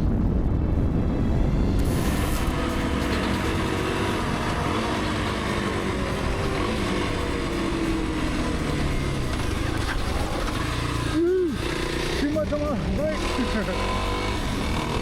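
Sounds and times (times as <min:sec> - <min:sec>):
wind rumble on microphone: 0:00.0 - 0:11.0, 0:13.8 - 0:15.0
motorcycle engine running: 0:00.0 - 0:15.0.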